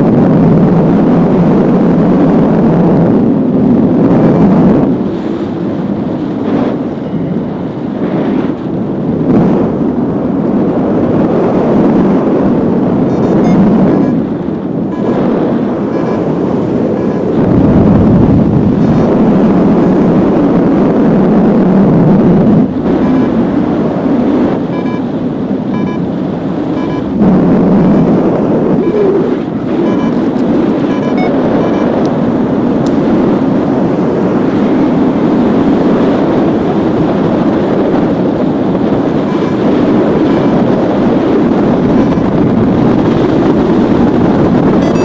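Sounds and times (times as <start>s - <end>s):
strong wind buffeting microphone: 0.0s - 45.0s.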